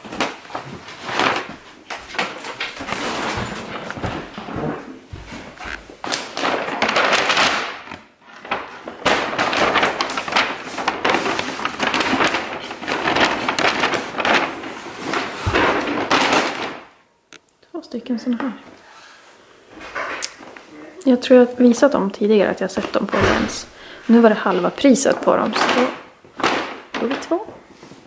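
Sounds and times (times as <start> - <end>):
paper bag rustling: 0.0 - 17.0, 21.6 - 28.0.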